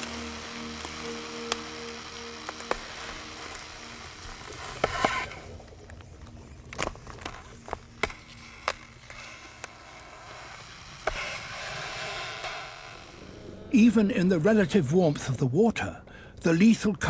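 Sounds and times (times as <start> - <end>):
ice crackling and cracking: 0.0 - 16.3.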